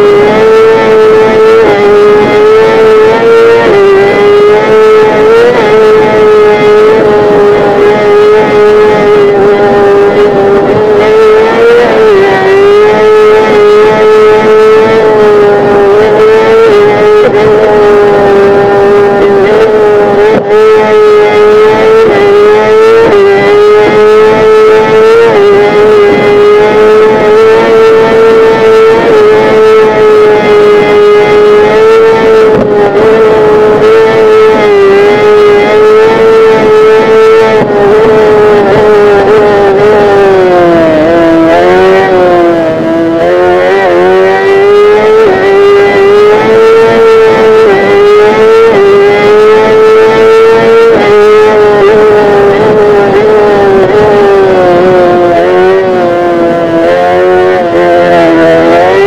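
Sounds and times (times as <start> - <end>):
motorcycle engine revving high: 0.0 - 59.0.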